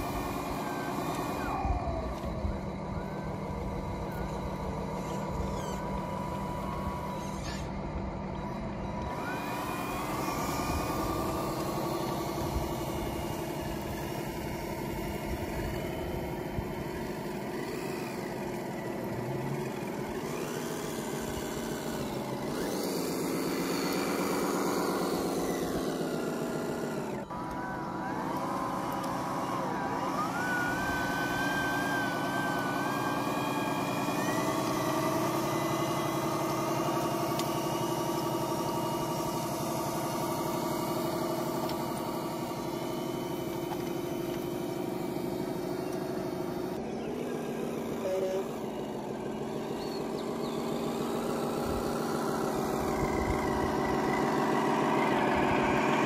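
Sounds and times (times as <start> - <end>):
model truck motor whine: 0.0 - 56.0.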